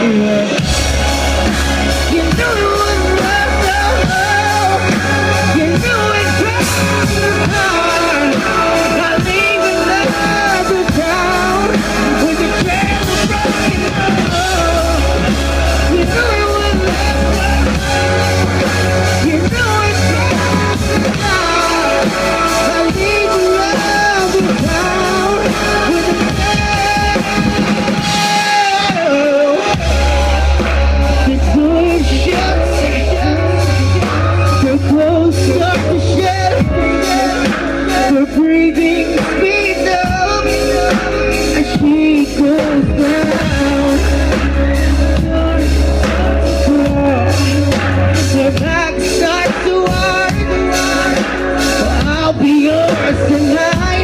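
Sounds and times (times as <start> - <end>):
live rock band playing: 0.0 - 54.0
man singing: 0.0 - 54.0.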